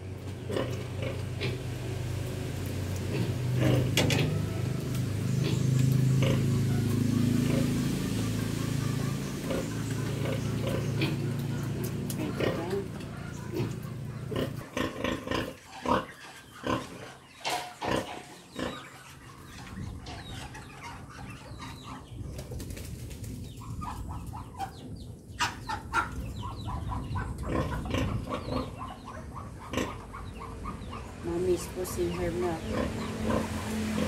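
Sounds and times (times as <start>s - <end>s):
pigs grunting: 0.4s - 2.0s, 3.0s - 22.1s, 26.7s - 34.0s.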